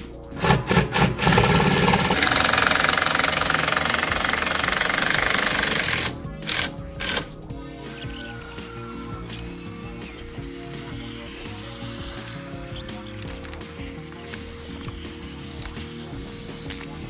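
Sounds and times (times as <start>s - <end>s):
background music: 0.0s - 17.0s
cordless drill driving screws: 0.4s - 16.8s.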